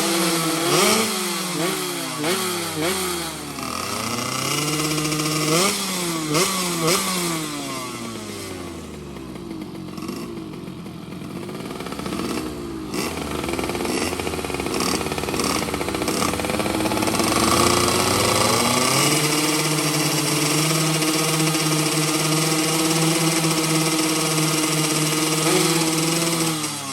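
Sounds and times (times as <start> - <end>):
motorcycle engines revving: 0.0 - 26.9.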